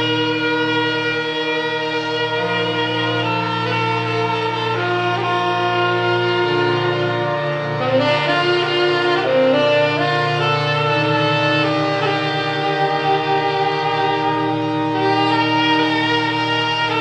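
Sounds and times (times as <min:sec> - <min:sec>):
saxophone slow melody: 0:00.0 - 0:17.0.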